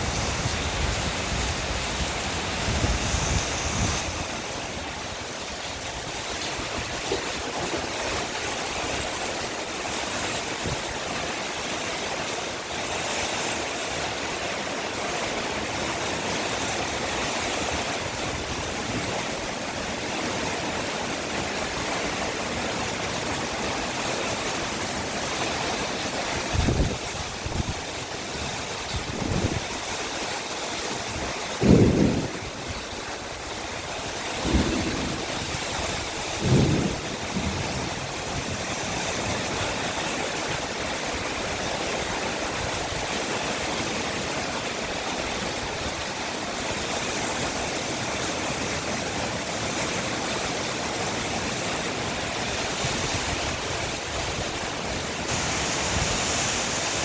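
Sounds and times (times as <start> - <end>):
strong wind: 0.0 - 12.6, 15.5 - 30.2, 30.8 - 57.0
heavy rain pouring: 0.0 - 57.0.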